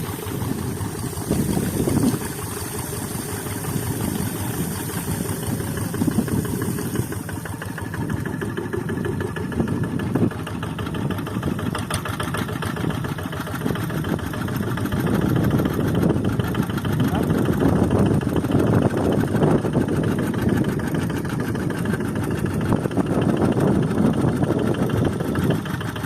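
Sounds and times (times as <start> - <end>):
diesel engine chugging: 0.0 - 26.0.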